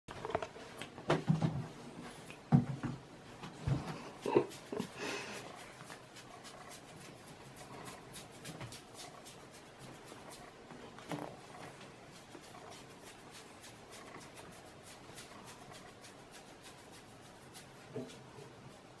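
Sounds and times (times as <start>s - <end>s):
rustling of fur: 3.2s - 19.0s.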